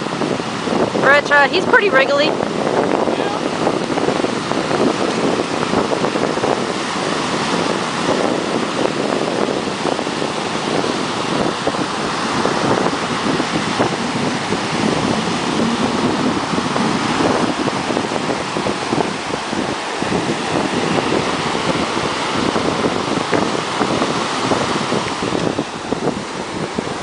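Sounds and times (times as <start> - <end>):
ocean surf washing on beach: 0.0 - 27.0
wind buffeting microphone: 0.0 - 27.0.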